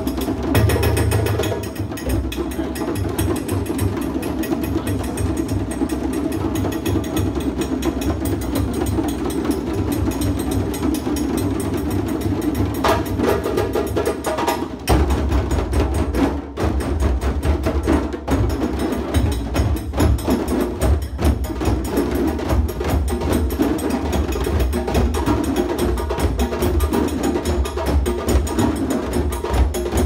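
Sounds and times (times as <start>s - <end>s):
group of hand drums playing: 0.0s - 30.0s.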